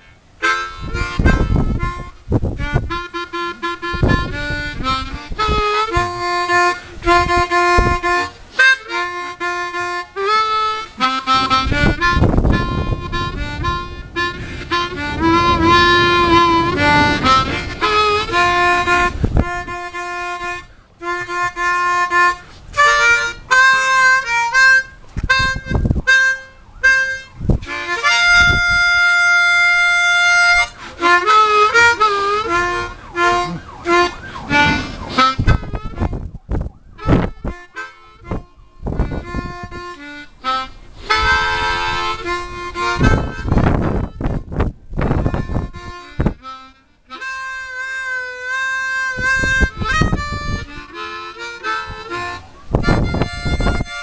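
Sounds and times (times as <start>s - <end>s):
harmonica playing: 0.0s - 54.0s.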